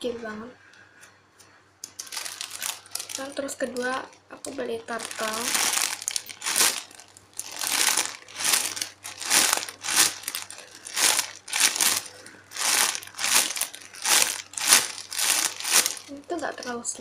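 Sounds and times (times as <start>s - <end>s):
plastic bag crinkling: 1.8s - 17.0s.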